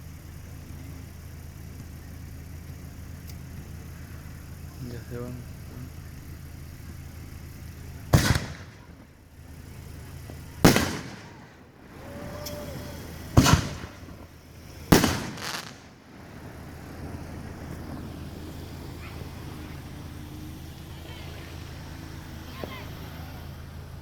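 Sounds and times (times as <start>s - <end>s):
fireworks banging: 0.0s - 24.0s
steady background hum: 0.0s - 24.0s.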